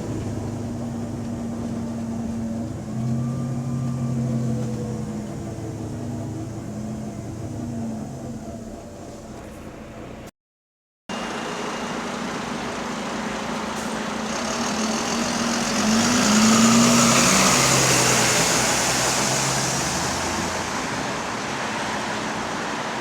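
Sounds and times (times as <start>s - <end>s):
bus engine accelerating: 0.0s - 10.3s, 11.1s - 23.0s
road noise: 0.0s - 10.3s, 11.1s - 23.0s.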